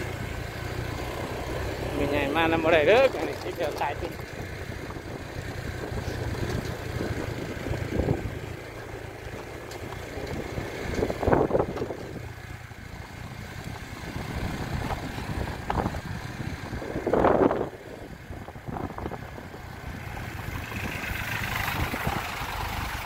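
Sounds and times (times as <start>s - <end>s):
road and wind noise: 0.0s - 23.0s
scooter engine running: 0.0s - 23.0s.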